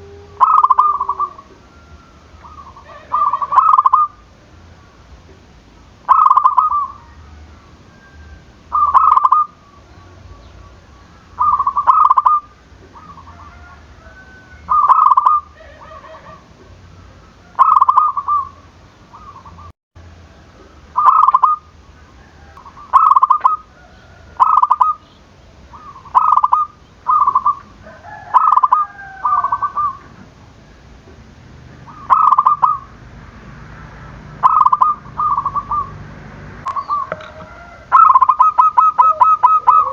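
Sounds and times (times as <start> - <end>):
dove cooing: 0.0 - 4.3, 6.1 - 19.7, 21.0 - 25.1, 25.7 - 30.3, 31.7 - 33.0, 33.7 - 39.9
faint gliding bird calls: 0.0 - 33.0, 33.6 - 39.9.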